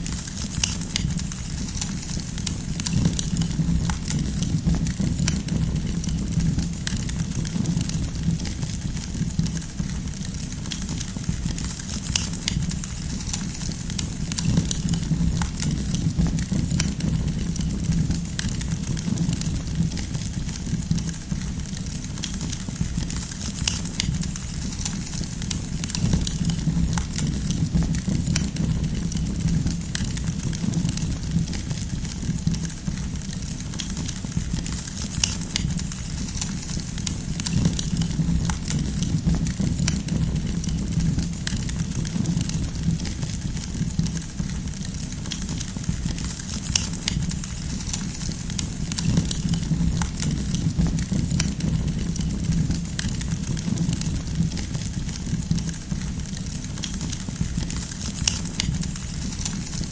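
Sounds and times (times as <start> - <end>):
campfire crackling and popping: 0.0 - 59.9
low rumble of flames: 0.0 - 59.9.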